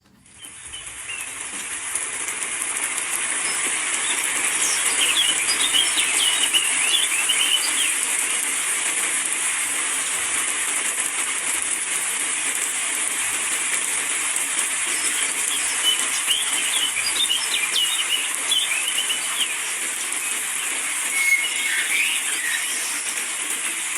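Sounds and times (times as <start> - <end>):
birds chirping: 0.0 - 9.4, 13.8 - 23.9
steady rain hiss: 0.1 - 23.9.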